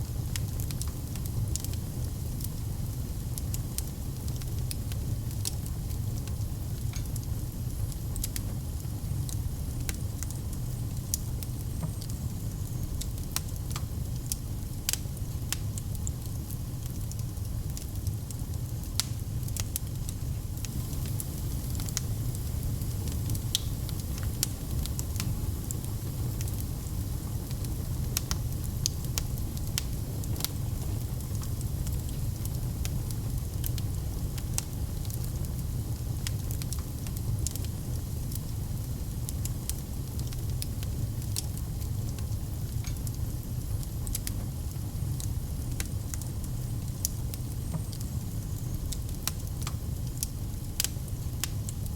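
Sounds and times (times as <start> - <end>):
wood fire crackling: 0.0 - 51.9
sharp snaps of fire: 0.1 - 51.9.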